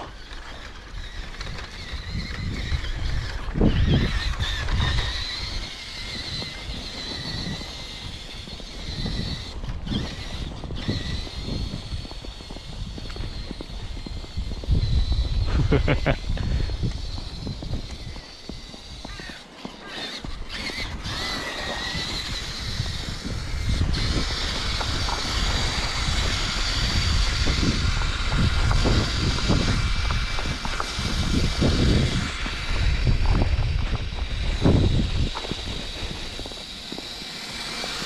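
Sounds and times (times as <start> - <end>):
toy truck motor whining: 0.0 - 38.0.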